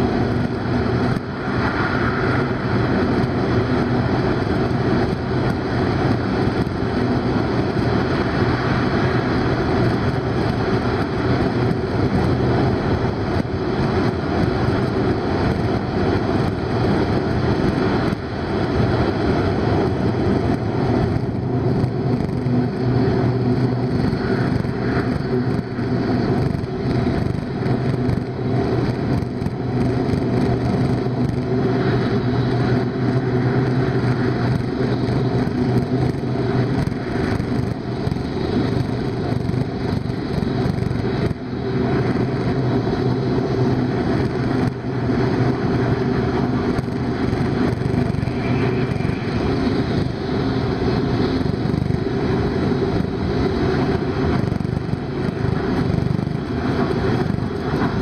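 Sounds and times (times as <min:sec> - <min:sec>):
train running rumble and hum: 0:00.0 - 0:58.0.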